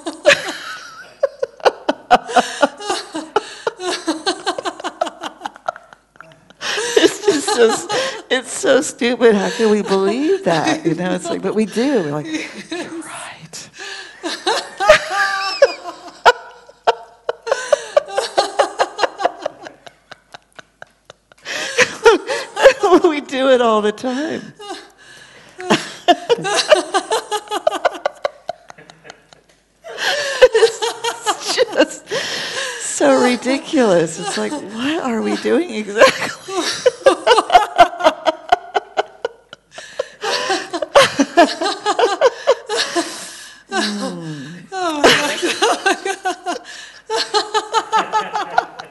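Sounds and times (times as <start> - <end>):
women laughing: 0.0 - 13.2, 14.2 - 25.0, 25.6 - 48.9.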